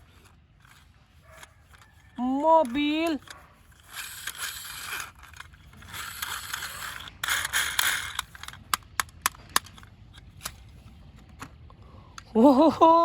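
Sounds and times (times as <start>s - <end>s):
plastic toys rustling and scraping: 0.0s - 12.4s
sharp plastic clicks: 0.0s - 12.4s.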